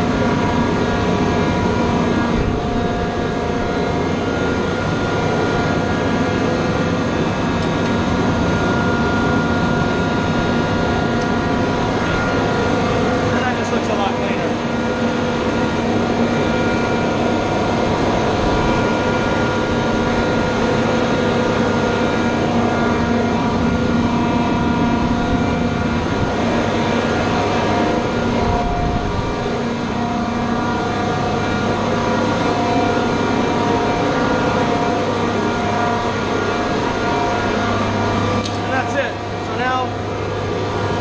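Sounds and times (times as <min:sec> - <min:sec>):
air compressor droning: 0:00.0 - 0:41.0.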